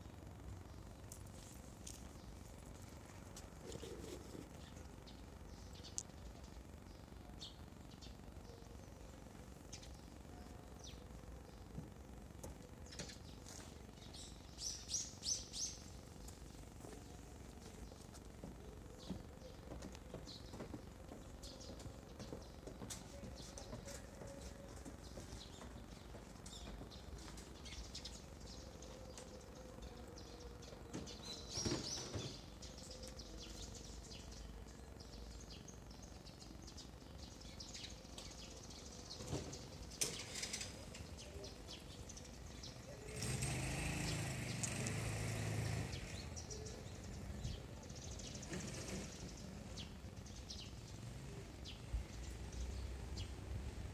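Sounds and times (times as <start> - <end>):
low background hum: 0.0 - 53.9
sparrows chirping: 0.0 - 53.9.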